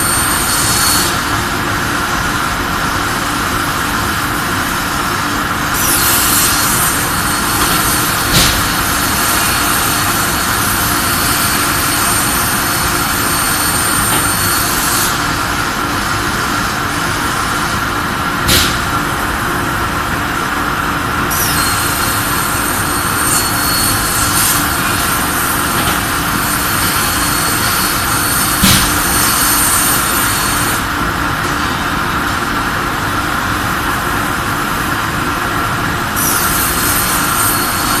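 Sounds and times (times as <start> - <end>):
plasma cutting machine noise: 0.0 - 38.0.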